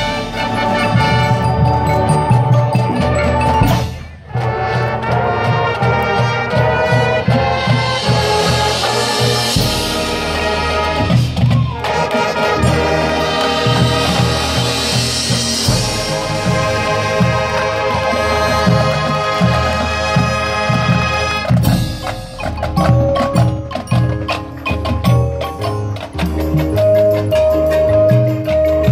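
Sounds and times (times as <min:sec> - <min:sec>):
marimbas and mallet percussion: 0:00.0 - 0:04.6, 0:08.0 - 0:20.3, 0:20.9 - 0:28.9
brass chords: 0:00.0 - 0:25.8.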